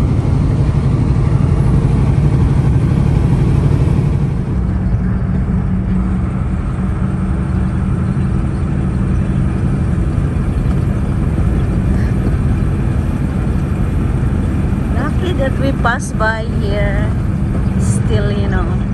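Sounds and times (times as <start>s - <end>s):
road noise: 0.0s - 18.9s
truck engine hum: 0.0s - 18.9s.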